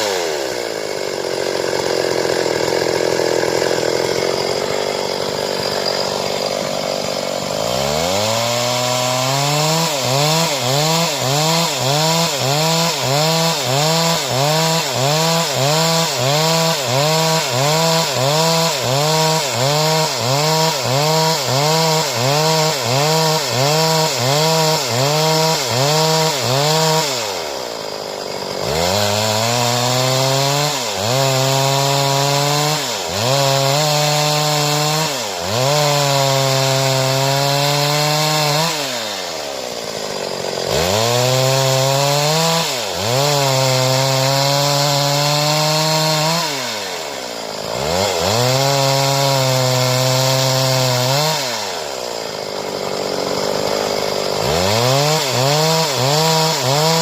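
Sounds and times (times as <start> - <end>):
chainsaw cutting boards: 0.0 - 57.0.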